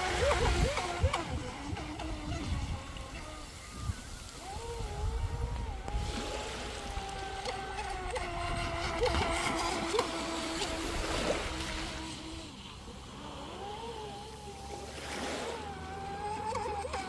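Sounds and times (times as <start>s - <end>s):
electric motor whine: 0.0s - 17.0s
hull slapping water: 0.0s - 17.0s.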